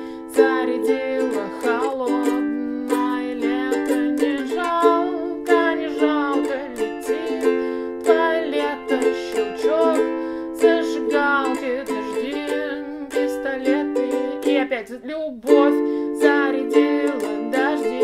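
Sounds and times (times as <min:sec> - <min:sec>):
ukulele strumming: 0:00.0 - 0:18.0
woman singing: 0:00.0 - 0:18.0.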